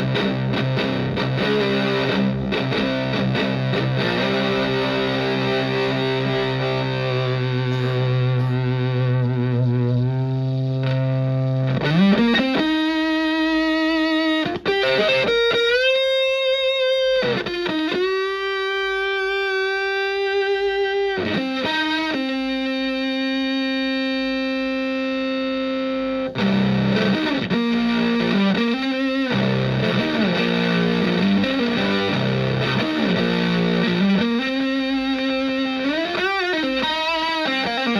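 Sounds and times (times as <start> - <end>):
fuzzed electric guitar notes: 0.0 - 37.9.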